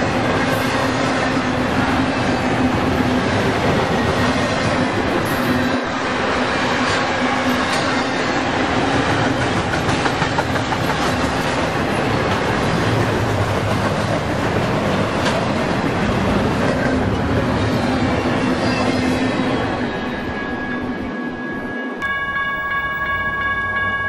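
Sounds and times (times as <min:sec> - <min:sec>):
train wheels clattering on rails: 0:00.0 - 0:19.7.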